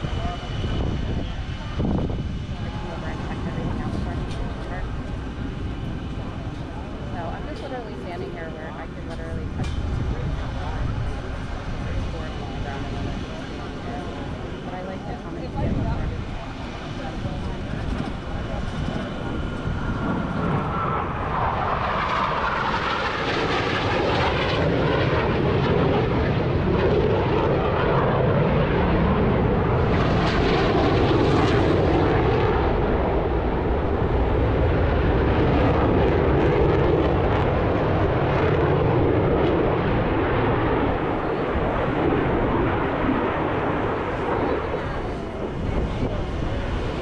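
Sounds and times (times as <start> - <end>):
jet engines roaring: 0.0 - 47.0.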